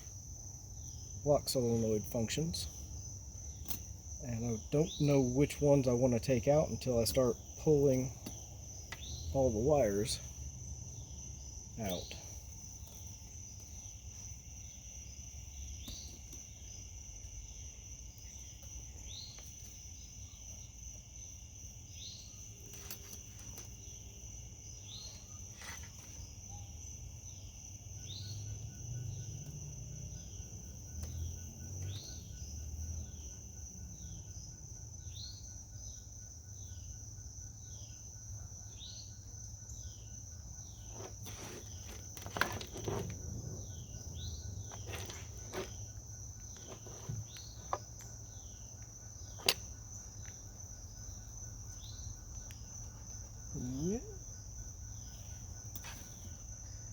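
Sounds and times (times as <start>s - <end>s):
crickets trilling: 0.0s - 56.9s.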